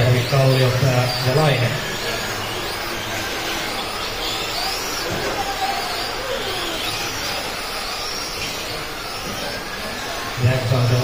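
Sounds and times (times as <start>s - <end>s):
toy truck electric motors whining: 0.0s - 11.0s.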